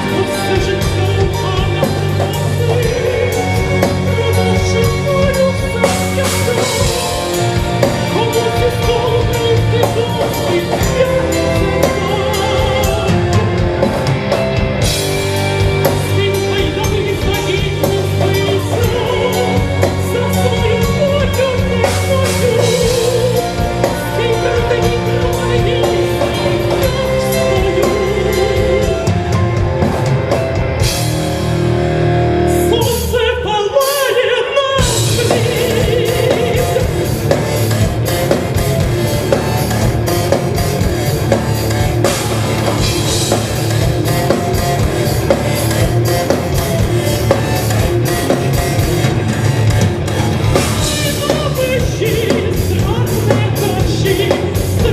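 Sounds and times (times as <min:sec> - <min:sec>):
person singing: 0:00.0 - 0:14.3, 0:15.2 - 0:29.9, 0:32.4 - 0:54.9
rock band playing live: 0:00.0 - 0:54.9.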